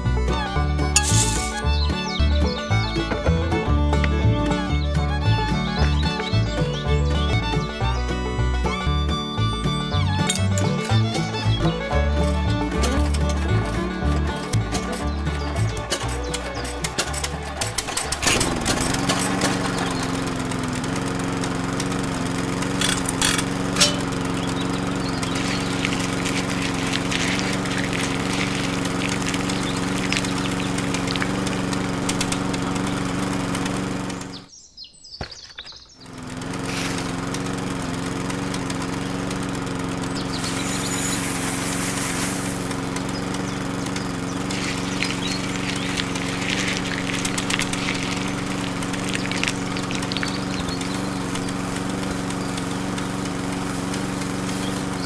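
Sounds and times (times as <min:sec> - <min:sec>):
small electric motor humming: 0:00.0 - 0:02.8, 0:03.6 - 0:34.5, 0:36.0 - 0:55.0
grinding ticks and crackles: 0:00.0 - 0:34.5, 0:35.7 - 0:55.0.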